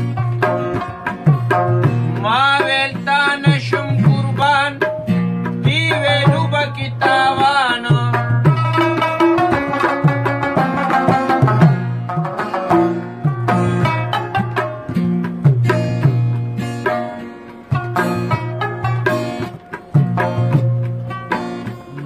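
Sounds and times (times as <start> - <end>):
steady drum rhythm: 0.0 - 22.0.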